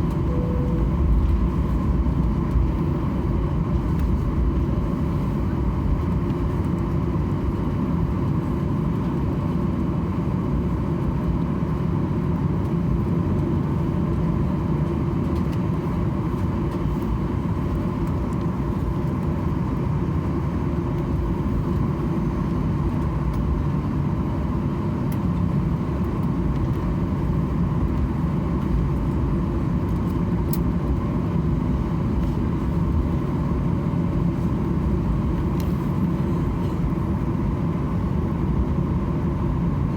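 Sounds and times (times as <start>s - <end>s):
aircraft engines rumbling in cabin: 0.0s - 39.9s.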